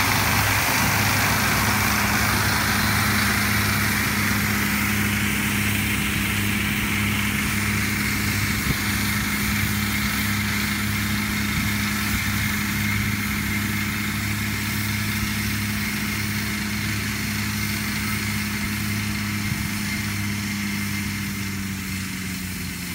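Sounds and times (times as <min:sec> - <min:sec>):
flail rotor whirring: 0:00.0 - 0:22.9
tractor diesel engine drone: 0:00.0 - 0:22.9.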